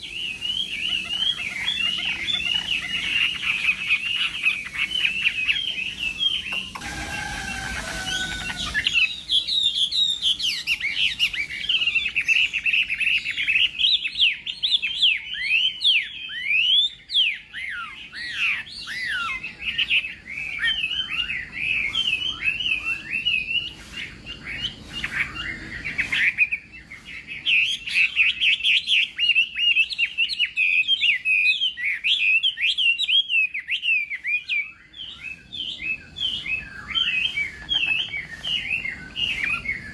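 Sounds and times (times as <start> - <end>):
songbird warbling and whistling: 0.0 - 39.9.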